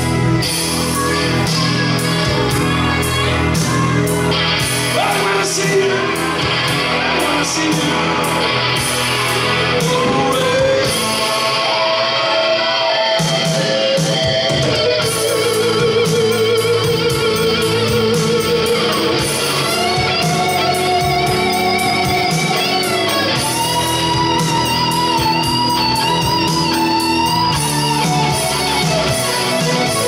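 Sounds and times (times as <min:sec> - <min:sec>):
drums with steady cymbal beat: 0:00.0 - 0:11.8, 0:13.0 - 0:30.0
bass guitar: 0:00.0 - 0:30.0
electric guitar solo: 0:00.0 - 0:30.0.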